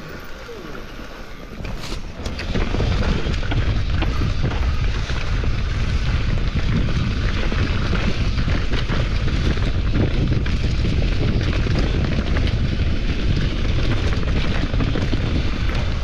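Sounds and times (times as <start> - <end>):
mountain bike rattle and tyre noise: 0.0 - 16.0
wind buffeting microphone: 0.0 - 16.0.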